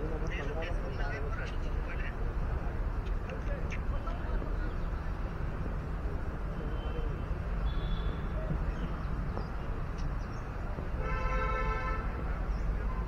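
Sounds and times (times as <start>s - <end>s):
faint distant voices: 0.0s - 13.0s.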